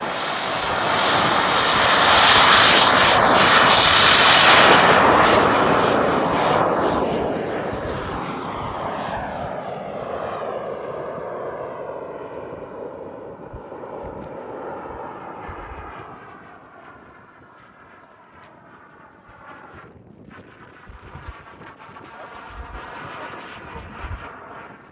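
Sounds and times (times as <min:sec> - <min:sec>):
model jet turbine roar: 0:00.0 - 0:24.9.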